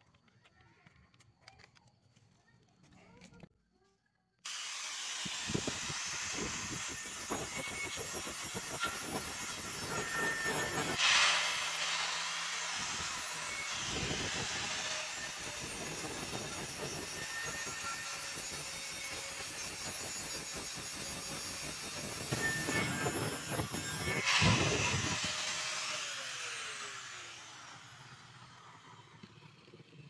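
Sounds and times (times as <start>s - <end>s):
angle grinder grinding steel: 4.5s - 30.0s.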